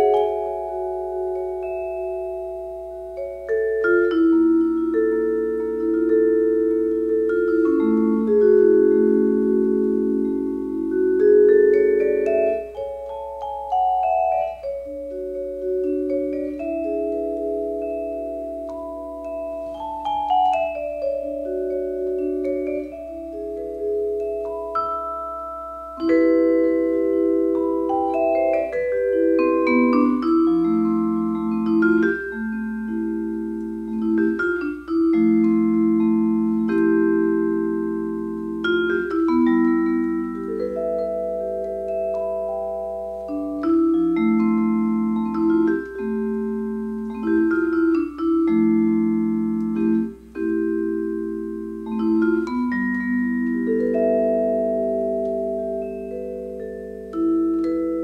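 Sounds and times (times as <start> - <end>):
instrumental background music: 0.0 - 58.0.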